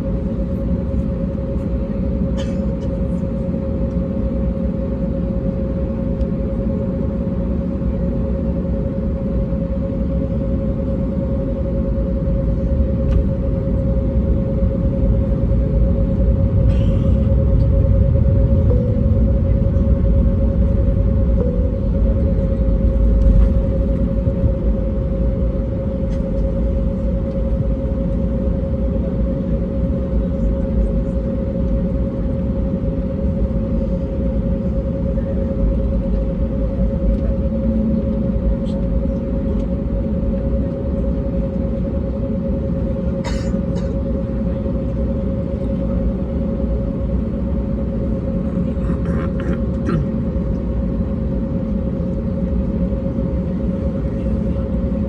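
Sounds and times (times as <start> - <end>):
aircraft cabin engine rumble: 0.0 - 55.0
steady droning tone: 0.0 - 55.0.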